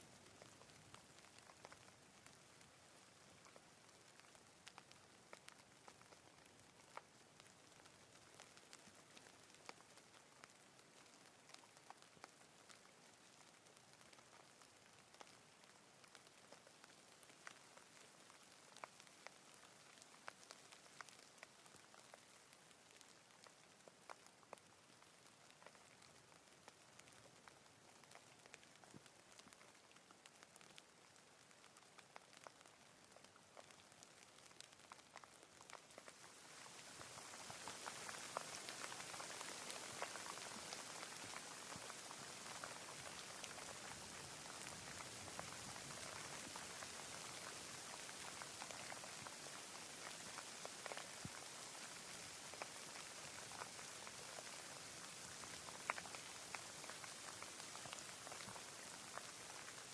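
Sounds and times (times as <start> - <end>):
light rain hiss: 0.0 - 59.9
raindrops ticking: 0.0 - 59.9.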